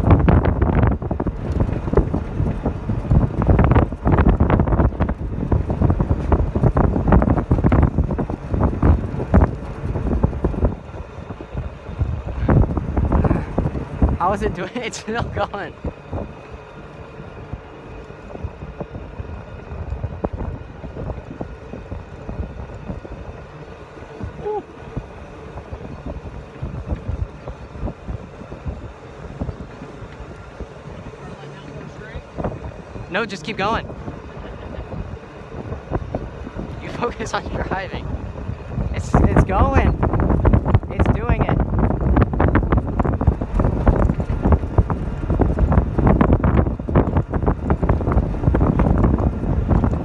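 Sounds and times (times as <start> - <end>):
golf cart rumble: 0.0 - 50.0
wind buffeting microphone: 0.0 - 50.0.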